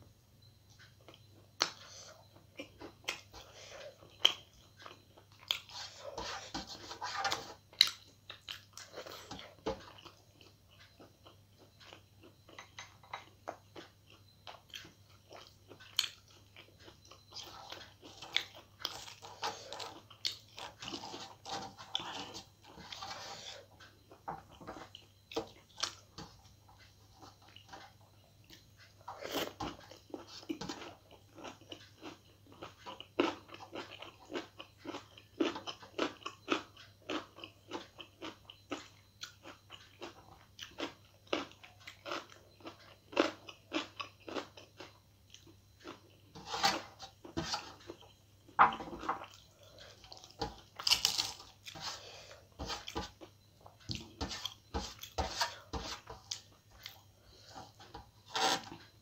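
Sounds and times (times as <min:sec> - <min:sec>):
person chewing and crunching: 0:00.8 - 0:59.0.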